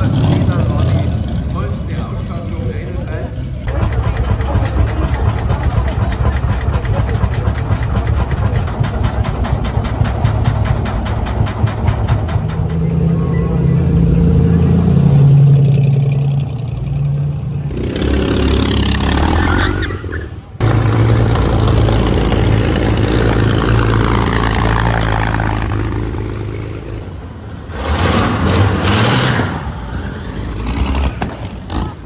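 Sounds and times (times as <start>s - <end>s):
engine revving: 0.0s - 2.9s, 3.6s - 32.0s
old car engines passing: 0.0s - 32.0s.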